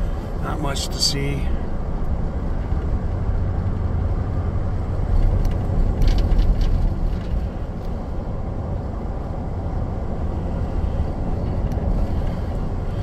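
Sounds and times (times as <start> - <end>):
truck engine rumble: 0.0 - 13.0
tyre noise on paved road: 0.0 - 13.0
wind noise: 1.6 - 13.0.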